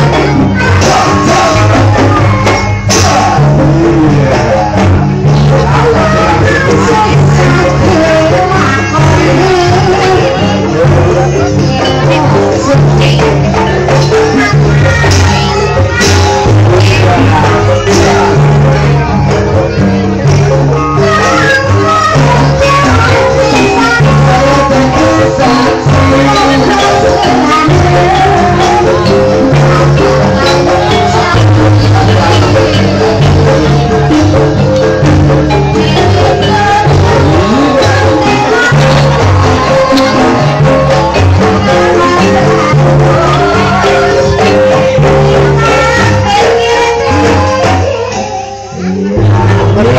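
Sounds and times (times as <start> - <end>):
pulsing bass: 0.0 - 48.1, 48.8 - 49.9
gamelan music: 0.0 - 49.9
percussion strikes: 0.0 - 49.9
pitched instruments playing melody: 0.0 - 49.9.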